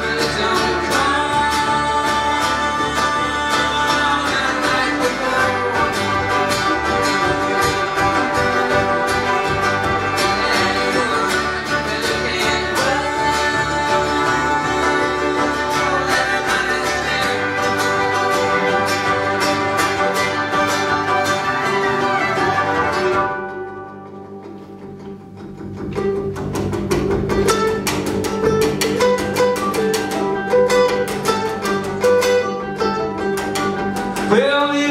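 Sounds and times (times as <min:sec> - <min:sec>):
acoustic string band playing: 0:00.0 - 0:34.9.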